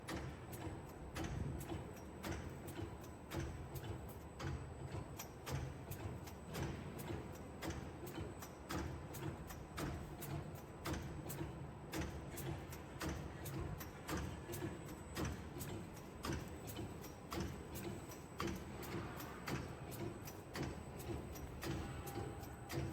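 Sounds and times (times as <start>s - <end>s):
pleating machine rhythmic clicking: 0.0s - 22.9s.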